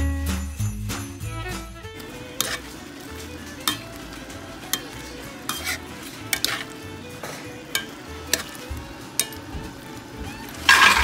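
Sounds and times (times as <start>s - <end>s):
shrimp sizzling in a skillet: 1.2s - 11.0s
utensil scraping a pan: 1.8s - 11.0s.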